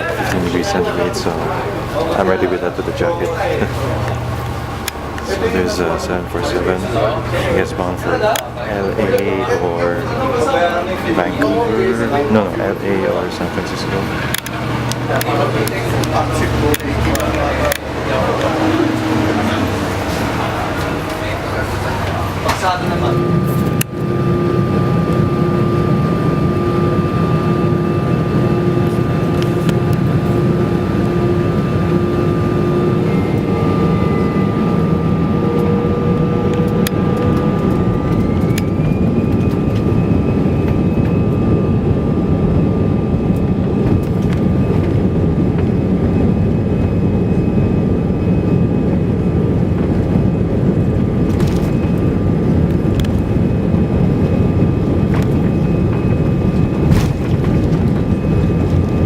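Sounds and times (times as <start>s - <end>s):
jet engines rumbling and whining: 0.0s - 59.0s.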